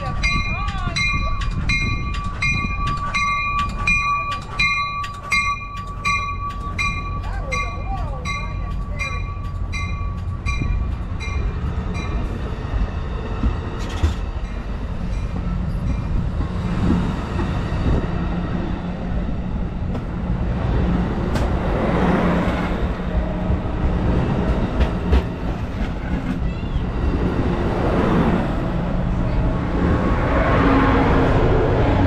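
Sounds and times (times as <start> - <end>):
train wheels rumbling: 0.0 - 32.0
wheels clicking and clunking on rails: 0.0 - 32.0.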